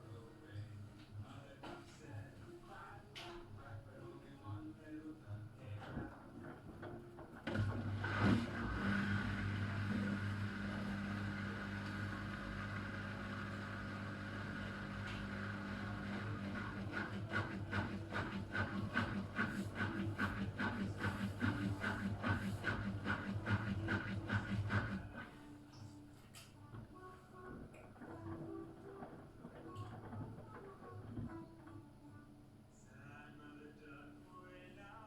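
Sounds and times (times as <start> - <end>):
washing machine rhythmic hum: 0.0 - 35.0.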